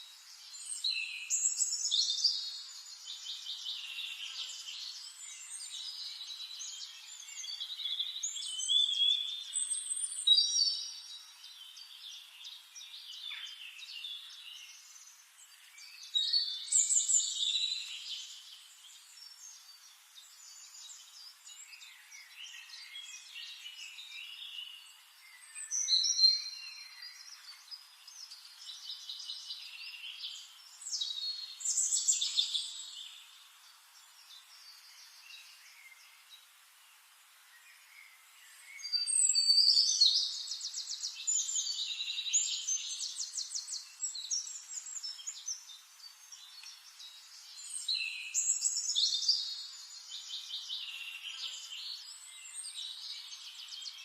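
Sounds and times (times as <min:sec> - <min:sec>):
birds singing and chirping: 0:00.0 - 0:54.0
loud high warbling birdsong: 0:00.0 - 0:54.0.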